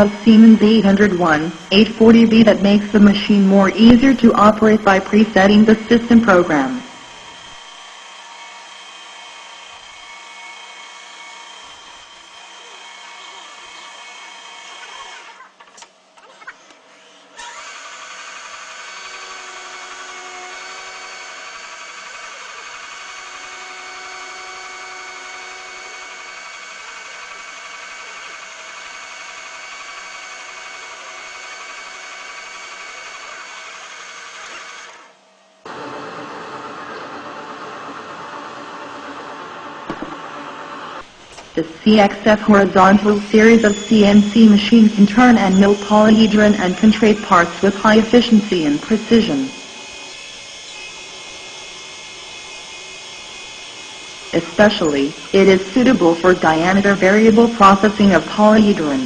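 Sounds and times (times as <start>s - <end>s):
lathe machine whirring: 0.0s - 16.1s, 16.8s - 59.0s.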